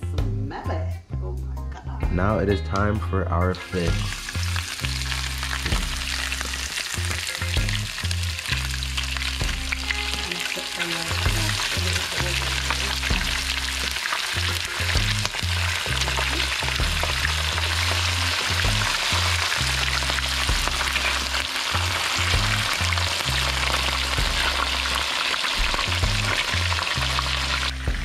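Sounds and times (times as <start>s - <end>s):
fish frying in oil: 3.7s - 28.0s.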